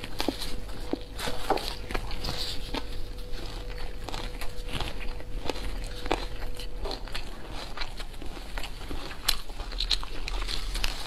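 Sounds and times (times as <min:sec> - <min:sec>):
mouth chewing clicks and smacks: 0:00.0 - 0:11.0.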